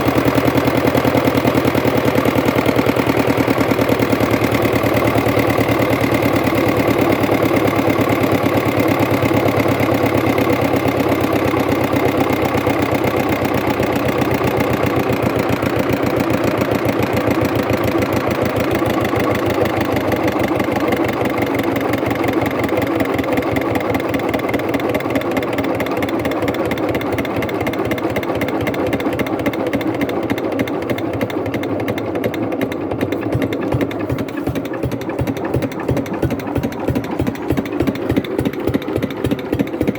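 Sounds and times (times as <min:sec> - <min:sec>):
diesel engine running fast: 0:00.0 - 0:39.9.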